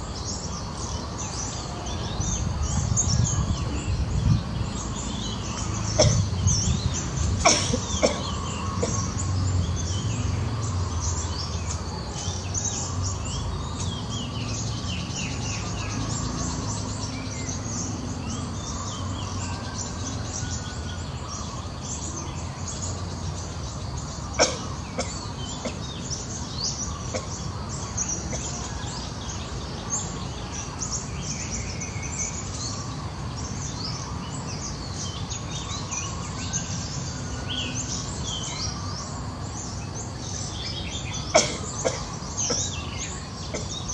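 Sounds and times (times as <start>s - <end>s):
birds chirping: 0.0s - 43.9s
outdoor background hiss: 0.0s - 43.9s.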